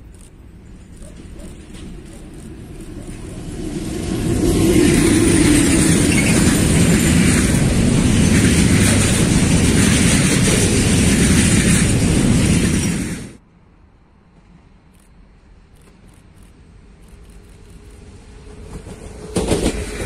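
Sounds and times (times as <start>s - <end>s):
freight train wheels rumbling: 0.0s - 13.4s, 14.3s - 20.0s.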